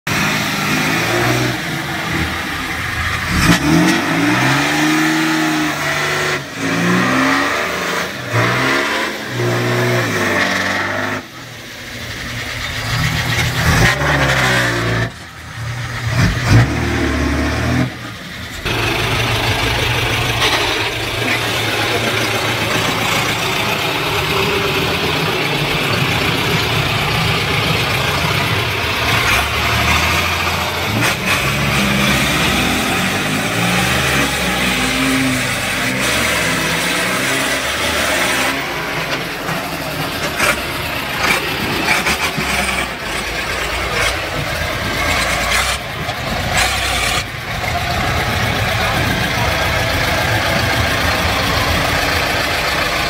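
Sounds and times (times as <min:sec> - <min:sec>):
heavy engines revving: 0:00.0 - 0:53.0.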